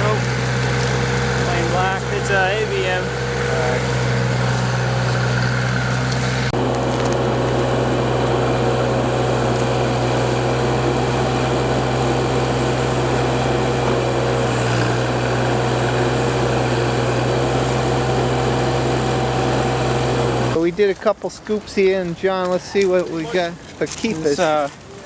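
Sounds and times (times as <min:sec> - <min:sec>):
backhoe engine droning: 0:00.0 - 0:20.6.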